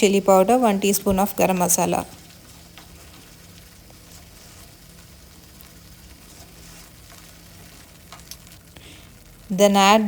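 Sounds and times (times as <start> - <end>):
puree sizzling in a pan: 0.0 - 10.0.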